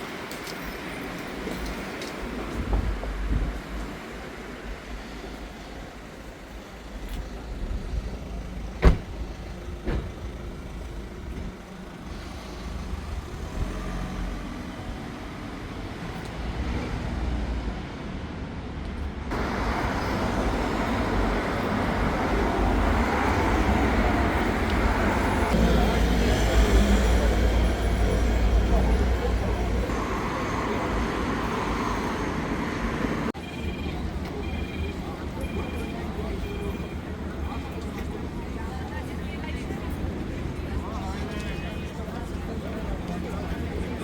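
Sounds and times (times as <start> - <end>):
street traffic rumble: 0.0 - 44.0.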